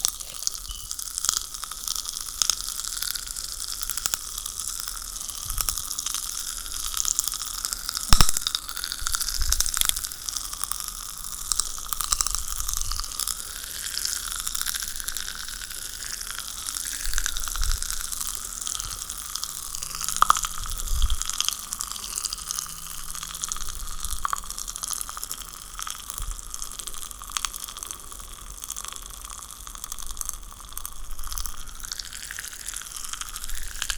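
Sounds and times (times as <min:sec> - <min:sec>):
popping candy crackling: 0:00.0 - 0:33.9.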